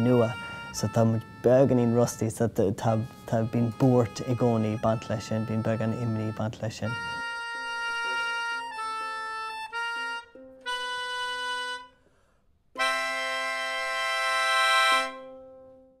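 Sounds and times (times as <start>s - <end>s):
free-reed instrument music: 0.0s - 16.0s.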